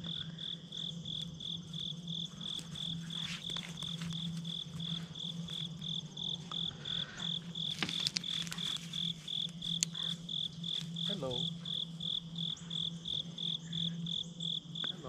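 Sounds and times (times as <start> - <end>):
insects chirping: 0.0 - 15.0
low pulsing drone: 0.0 - 15.0.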